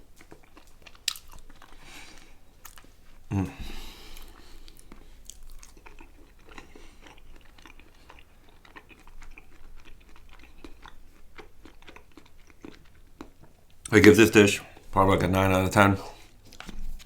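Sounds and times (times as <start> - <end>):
person chewing food: 0.0 - 13.9, 16.2 - 17.0
food crunching: 0.0 - 14.9, 16.2 - 17.0.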